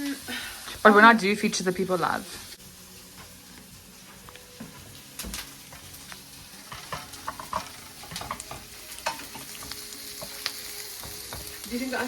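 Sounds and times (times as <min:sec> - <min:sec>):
onions sizzling in a frying pan: 0:00.0 - 0:12.0.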